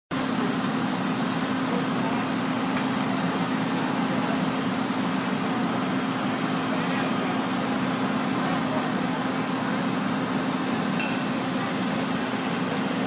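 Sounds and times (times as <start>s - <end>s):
engine running steadily: 0.1s - 13.0s.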